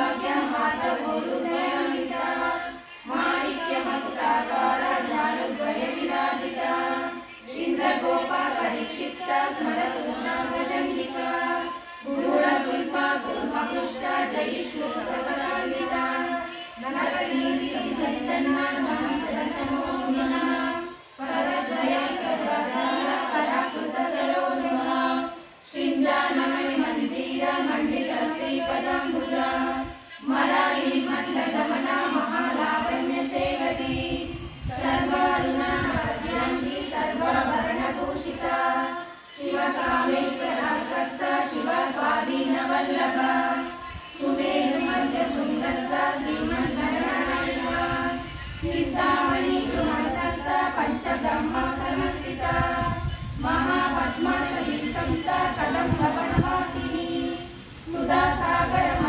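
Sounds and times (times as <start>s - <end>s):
women chanting a hymn in unison: 0.0s - 59.0s.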